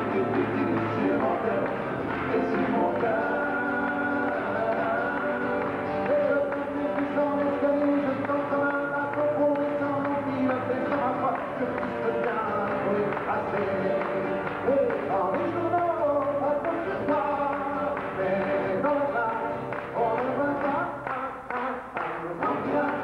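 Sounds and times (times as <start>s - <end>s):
acoustic guitar: 0.0s - 23.0s
man singing: 0.0s - 23.0s.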